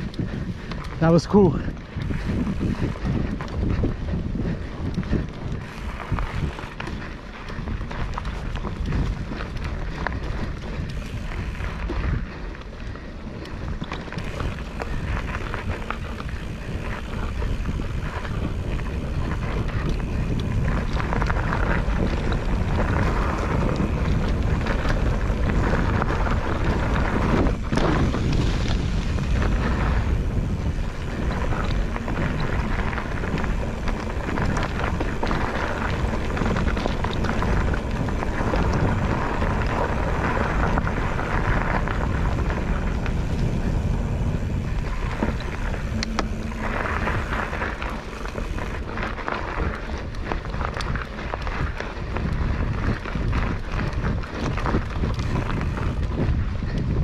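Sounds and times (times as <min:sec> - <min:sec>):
mountain bike rumble and rattle: 0:00.0 - 0:57.0
wind buffeting microphone: 0:00.0 - 0:57.0.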